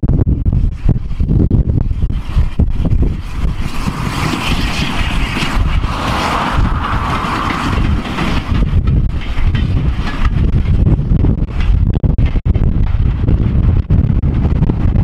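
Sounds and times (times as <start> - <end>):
wind buffeting microphone: 0.0 - 15.0
steam locomotive passing: 0.7 - 13.8.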